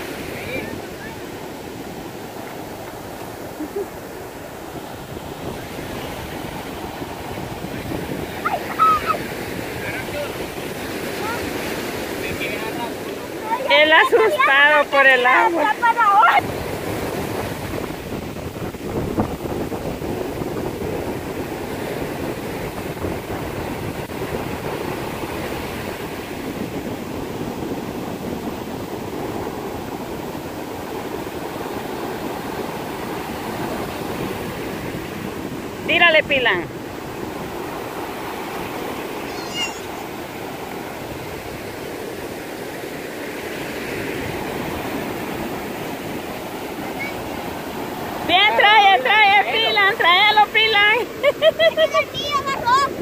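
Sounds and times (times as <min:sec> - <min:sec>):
surf breaking on a beach: 0:00.0 - 0:53.0
wind buffeting the microphone: 0:00.0 - 0:53.0.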